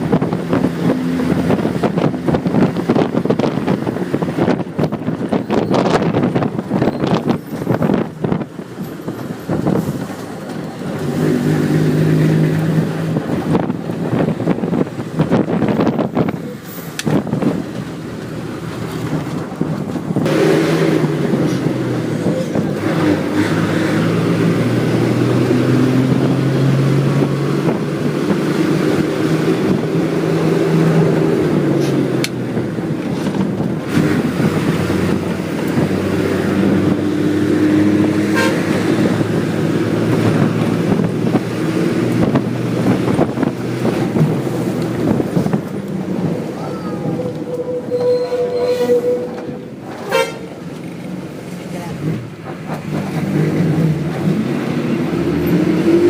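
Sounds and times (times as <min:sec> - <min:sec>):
bus engine running: 0:00.0 - 0:56.0
road noise inside bus: 0:00.0 - 0:56.0.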